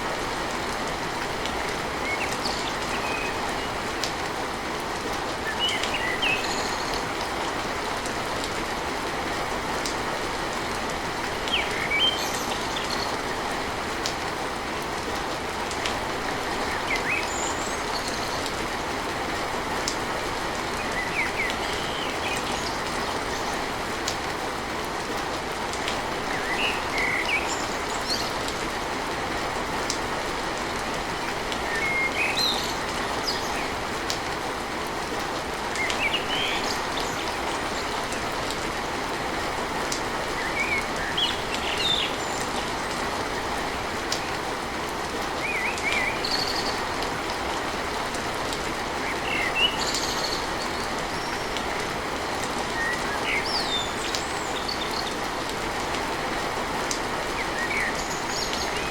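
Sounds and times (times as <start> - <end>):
rain drumming on a tin roof: 0.0 - 58.9.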